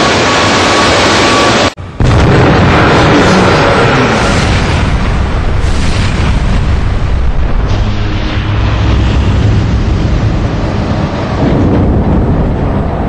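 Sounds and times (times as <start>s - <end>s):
turbofan engine roaring: 0.0s - 13.0s.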